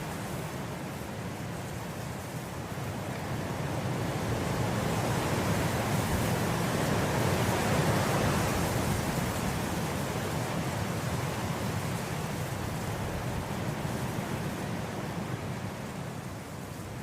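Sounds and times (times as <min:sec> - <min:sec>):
wind blowing through grass: 0:00.0 - 0:17.0.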